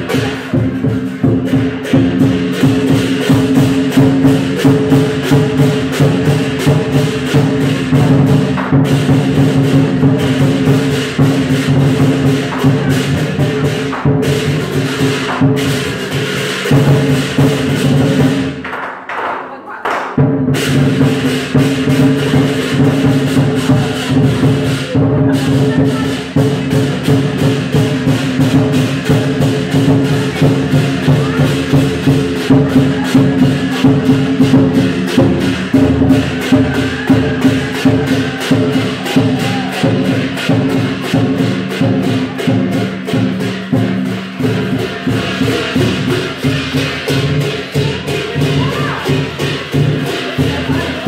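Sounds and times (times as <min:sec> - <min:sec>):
cymbals crashing: 0:00.0 - 0:18.6, 0:20.2 - 0:51.0
drum beating fast rhythm: 0:00.0 - 0:51.0.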